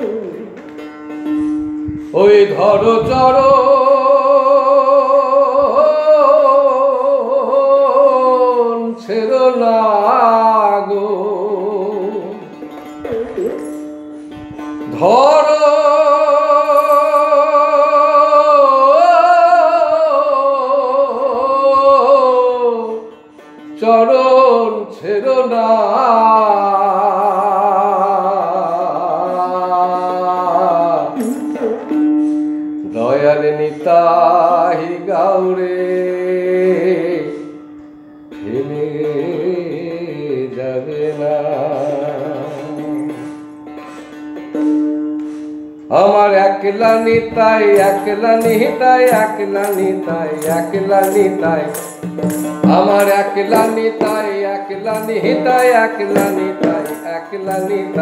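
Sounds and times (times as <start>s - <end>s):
plucked string drone: 0.0s - 58.0s.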